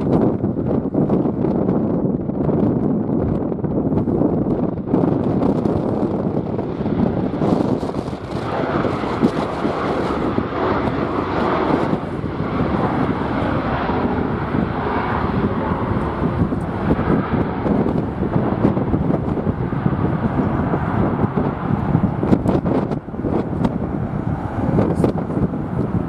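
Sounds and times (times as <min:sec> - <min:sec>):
jet airliner engines: 0:00.0 - 0:26.0
wind buffeting microphone: 0:00.0 - 0:26.0.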